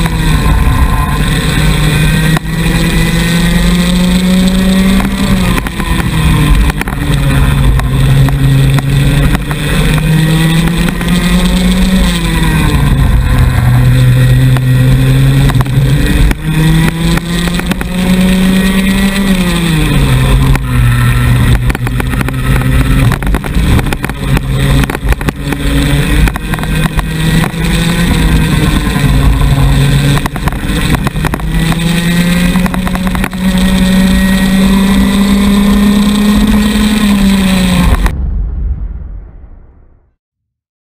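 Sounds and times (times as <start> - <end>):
two-stroke kart engine racing: 0.0 - 38.1.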